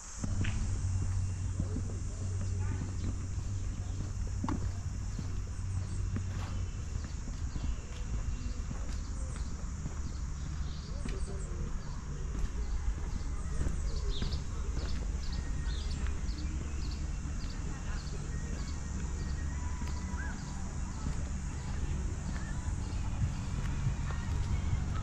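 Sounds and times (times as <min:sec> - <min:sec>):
footsteps on hard surface: 0:00.0 - 0:25.0
steady low rumble: 0:00.0 - 0:25.0.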